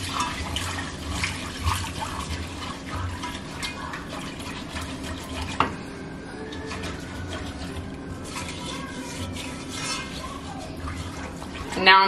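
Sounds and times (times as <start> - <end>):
whisk stirring: 0.0 - 12.0.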